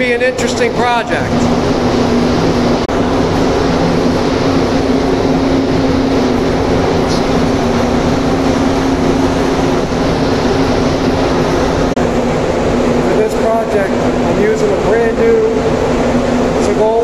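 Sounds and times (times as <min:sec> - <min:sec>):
constant low hum: 0:00.0 - 0:17.0
ventilation fans rushing air: 0:00.0 - 0:17.0.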